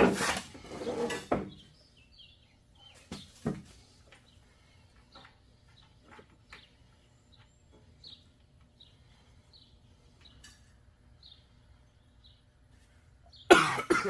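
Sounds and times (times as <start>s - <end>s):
faint bird chirping: 0.6s - 13.6s.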